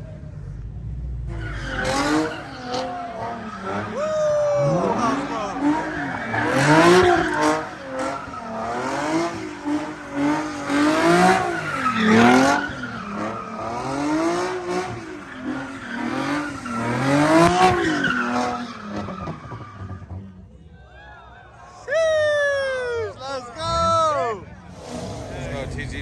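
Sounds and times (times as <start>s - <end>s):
car engine revving: 0.6s - 20.6s, 24.5s - 26.0s.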